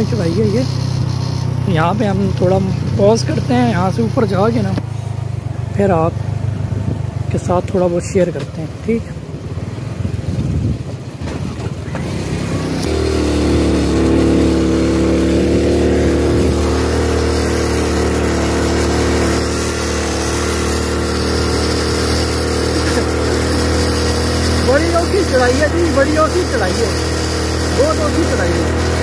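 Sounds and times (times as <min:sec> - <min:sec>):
motorcycle engine under load: 0:00.0 - 0:29.0.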